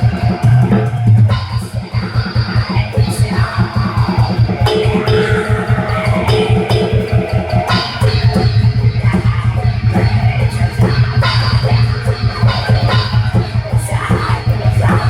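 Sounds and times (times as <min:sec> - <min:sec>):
bass guitar: 0:00.0 - 0:15.0
distorted electric guitar: 0:00.0 - 0:15.0
fast pulsing drum kit: 0:00.0 - 0:15.0.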